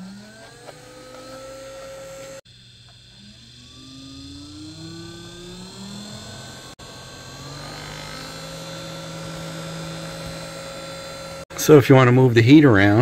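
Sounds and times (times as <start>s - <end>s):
small fan motor whine: 0.0s - 11.8s.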